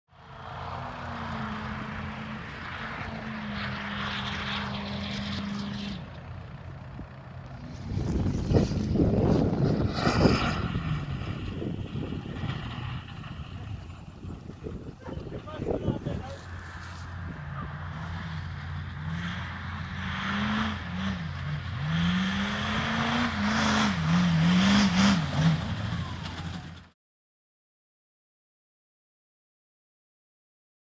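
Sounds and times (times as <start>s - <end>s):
diesel truck engine running: 0.2s - 26.9s.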